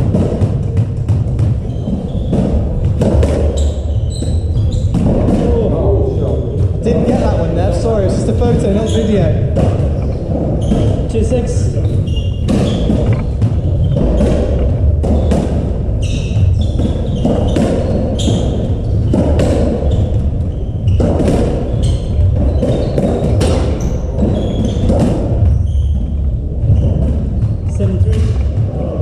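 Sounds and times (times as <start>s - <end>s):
racket strikes: 0.0s - 28.9s.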